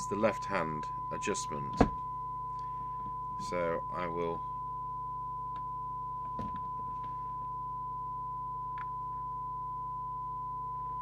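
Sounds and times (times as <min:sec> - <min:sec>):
low hum: 0:00.0 - 0:11.0
steady test tone: 0:00.0 - 0:11.0.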